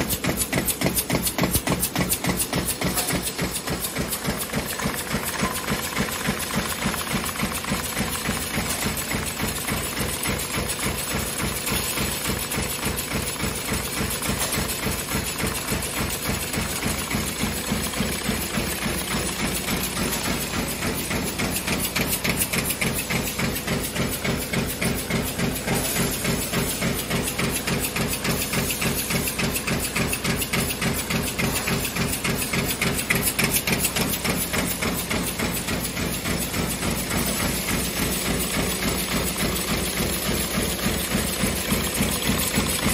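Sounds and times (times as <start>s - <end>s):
machine mechanical running noise: 0.0s - 42.9s
press stamping metal: 0.0s - 42.9s.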